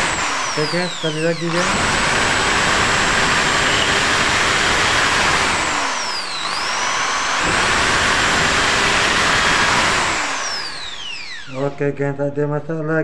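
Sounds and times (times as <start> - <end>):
impact drill drilling into concrete: 0.0 - 11.6.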